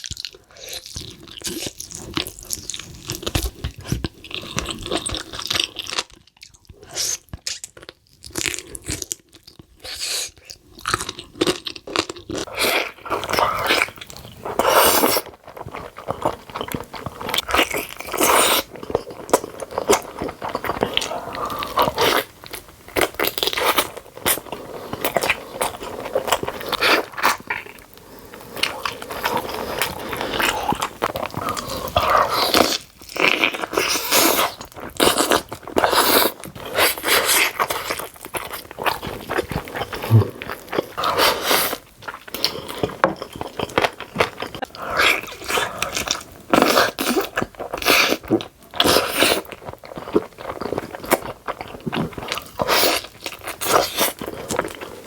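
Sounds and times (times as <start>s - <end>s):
crunchy eating and chewing: 0.0s - 55.0s.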